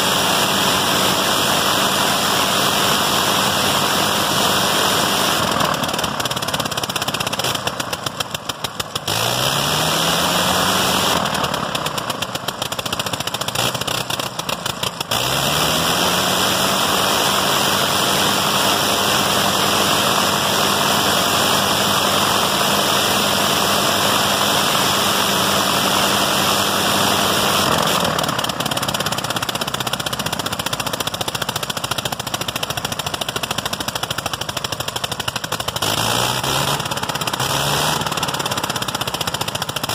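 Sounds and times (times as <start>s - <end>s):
rotary aircraft engine running: 0.0s - 39.9s.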